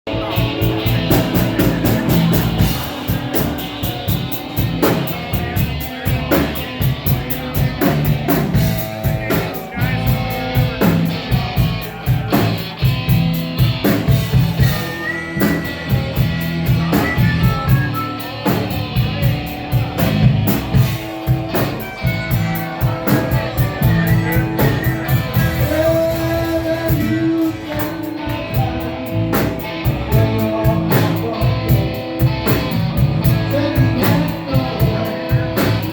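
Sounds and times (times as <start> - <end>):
rock band playing: 0.0 - 35.9.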